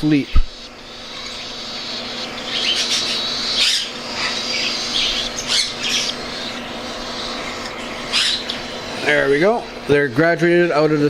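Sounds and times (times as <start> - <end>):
cockatiel chicks begging: 0.0 - 10.0.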